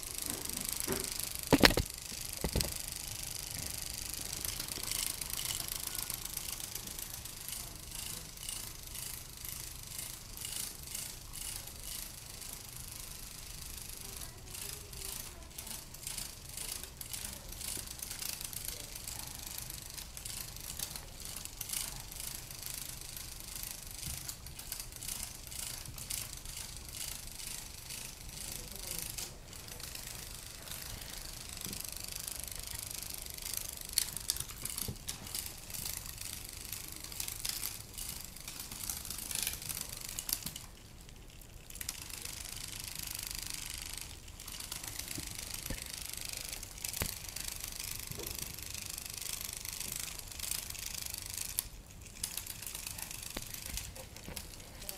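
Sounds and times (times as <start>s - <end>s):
toy motor clicking rattle: 0.0s - 54.9s.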